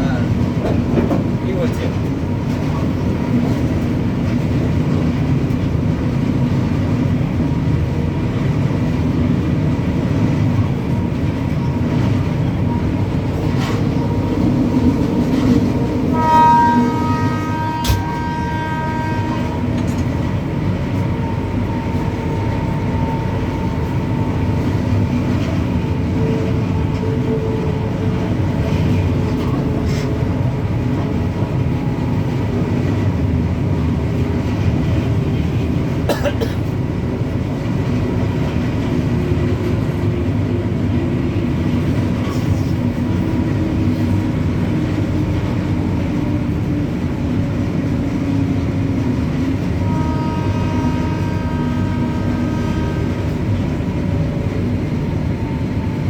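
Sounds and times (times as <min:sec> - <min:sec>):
electric locomotive rumble: 0:00.0 - 0:56.0.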